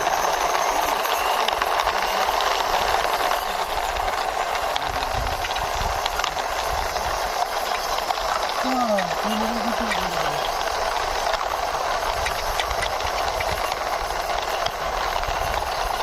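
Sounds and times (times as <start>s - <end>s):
toy wheels rolling with rattle: 0.0s - 16.0s.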